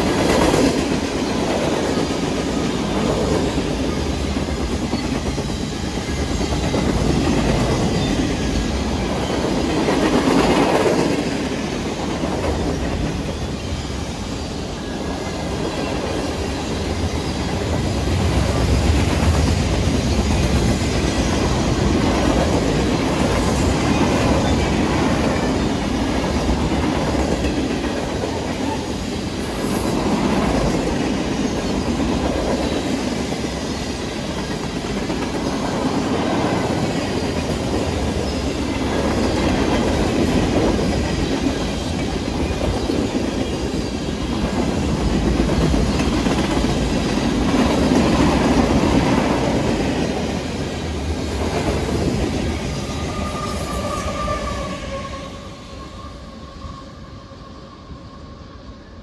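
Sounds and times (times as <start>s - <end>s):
freight train wheels rolling: 0.0s - 59.0s.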